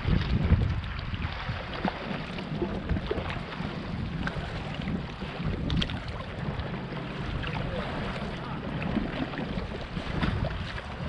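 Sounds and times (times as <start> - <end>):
small waves lapping against wall: 0.0 - 11.0
wind buffeting microphone: 0.0 - 11.0.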